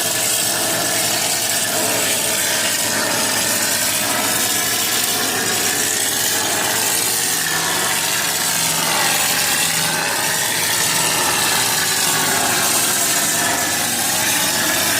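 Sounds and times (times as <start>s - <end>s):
mortar sprayer hissing: 0.0s - 14.9s.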